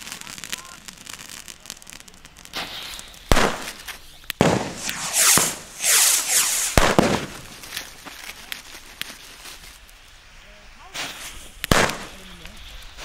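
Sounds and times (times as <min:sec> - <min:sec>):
firecrackers banging: 0:00.0 - 0:08.9, 0:10.9 - 0:13.0
firecracker hissing: 0:00.0 - 0:13.0.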